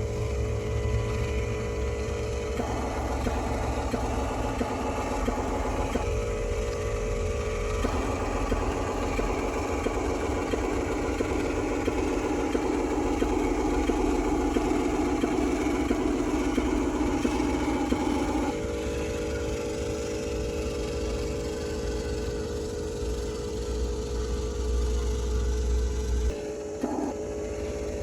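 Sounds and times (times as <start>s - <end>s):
small electric motors whining: 0.0s - 28.0s.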